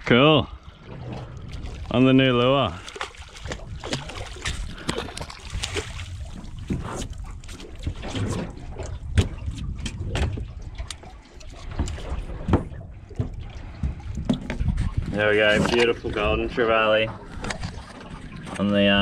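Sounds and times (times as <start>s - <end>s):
water around hull: 0.0s - 19.0s
wind rumble on microphone: 0.0s - 19.0s
knocks and thuds on boat: 0.8s - 19.0s.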